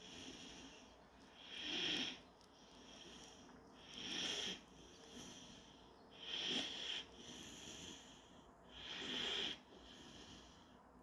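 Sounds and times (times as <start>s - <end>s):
puppy breathing in sleep: 0.0s - 11.0s.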